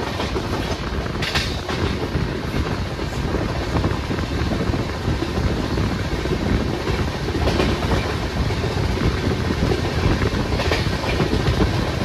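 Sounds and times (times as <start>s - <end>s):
train coach rumble: 0.0s - 12.0s.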